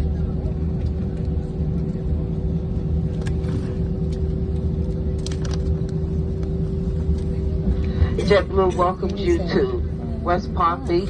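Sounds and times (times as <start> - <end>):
aircraft cabin rumble: 0.0 - 11.0
engine hum: 0.0 - 11.0.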